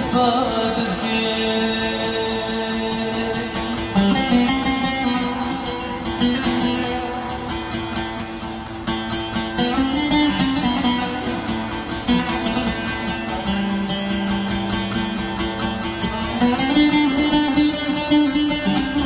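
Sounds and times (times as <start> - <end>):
plucked string instrument music: 0.0 - 19.0.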